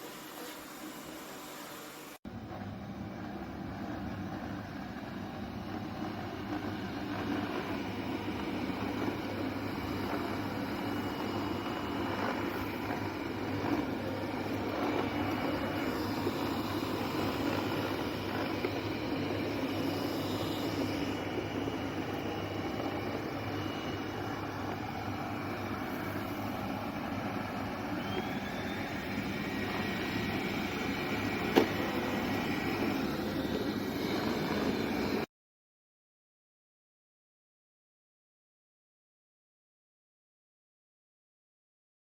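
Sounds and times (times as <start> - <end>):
robot vacuum cleaner motor drone: 0.0 - 35.3.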